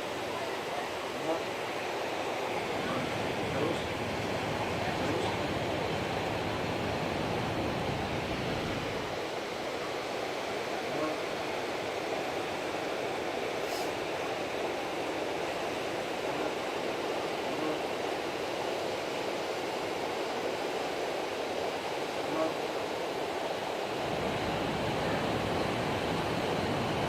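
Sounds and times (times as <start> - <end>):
ocean surf on beach: 0.0 - 27.0.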